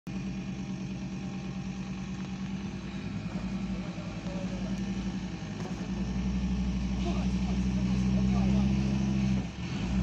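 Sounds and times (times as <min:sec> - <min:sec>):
vehicle engine running at low revs: 0:00.1 - 0:10.0.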